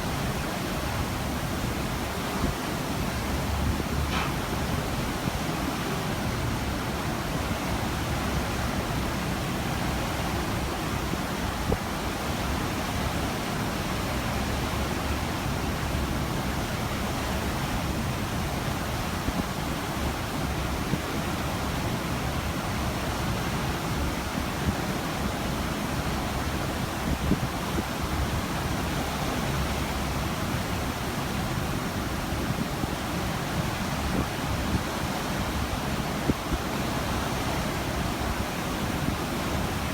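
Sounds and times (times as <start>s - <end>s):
ocean water rushing: 0.0s - 39.9s
wind: 0.0s - 39.9s.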